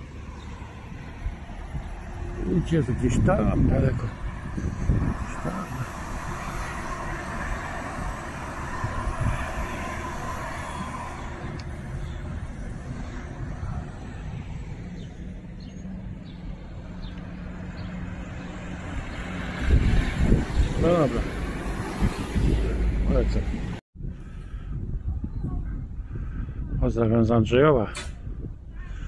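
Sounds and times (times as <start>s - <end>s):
cars passing on a street: 0.0s - 25.2s.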